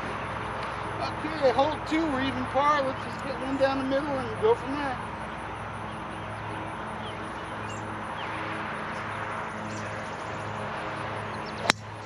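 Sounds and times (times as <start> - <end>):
birds chirping: 0.0 - 12.0
low constant hum: 0.0 - 12.0.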